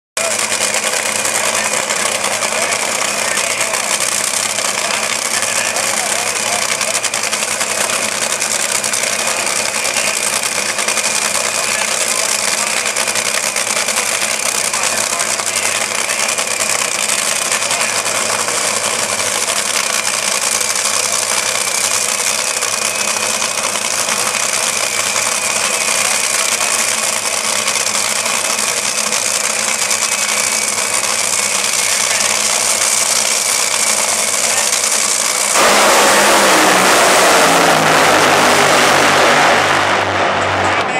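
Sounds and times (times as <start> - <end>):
dragster engines idling: 0.2 - 40.9
dragsters launching at full throttle: 0.2 - 40.9.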